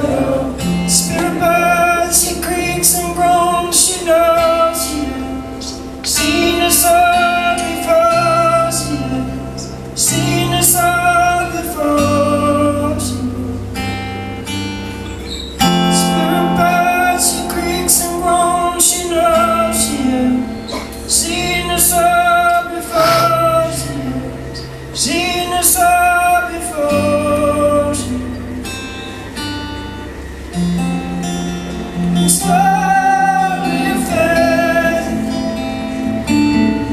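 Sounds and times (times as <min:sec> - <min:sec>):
wordless singing: 0:00.0 - 0:13.8, 0:15.5 - 0:28.6, 0:31.9 - 0:36.9
acoustic guitar: 0:00.0 - 0:36.9
low bass notes: 0:00.0 - 0:36.9.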